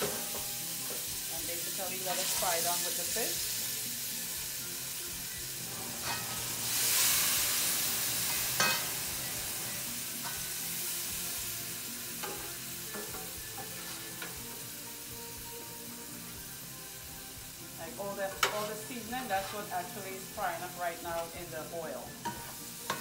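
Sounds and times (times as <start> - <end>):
seasoning sizzling in oil: 0.0 - 23.0.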